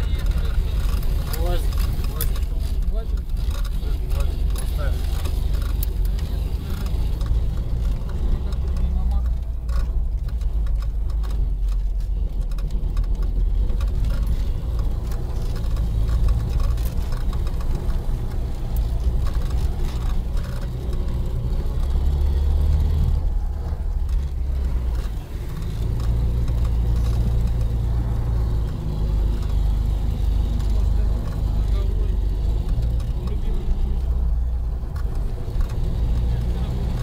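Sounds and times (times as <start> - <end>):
vehicle engine droning: 0.0 - 37.0.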